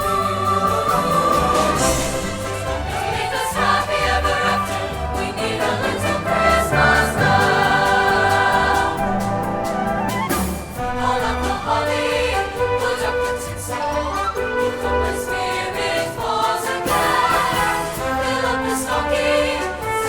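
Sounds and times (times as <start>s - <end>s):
choir singing with orchestra: 0.0s - 20.0s.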